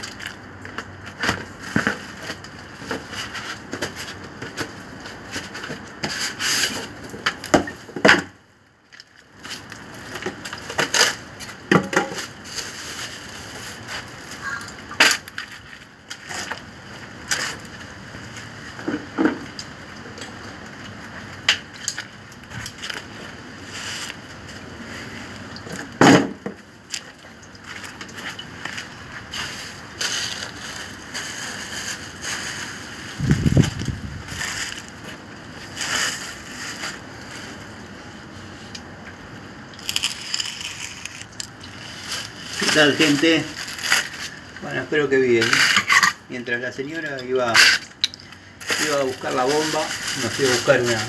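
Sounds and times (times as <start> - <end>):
cardboard and foam packing rustling: 0.0 - 8.3, 9.0 - 19.4, 22.0 - 39.0, 39.8 - 45.8, 48.4 - 51.0.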